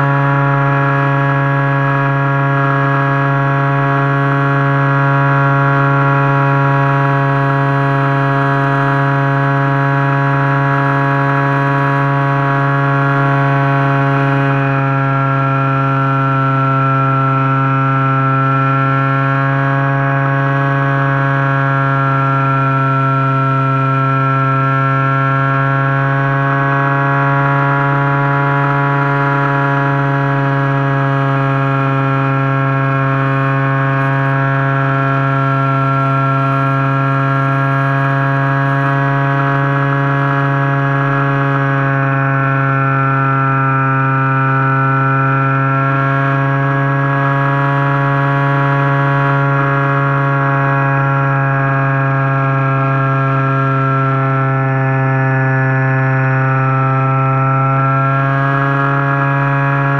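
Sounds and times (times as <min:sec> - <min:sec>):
electric motor propeller whine: 0:00.0 - 0:59.9.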